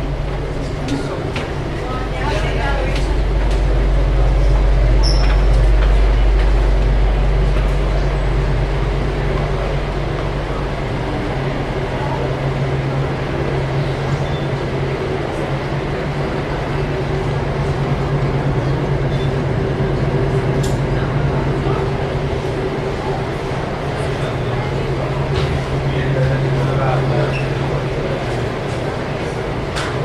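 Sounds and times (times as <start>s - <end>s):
loud low rumble with droning hum: 0.0s - 30.0s.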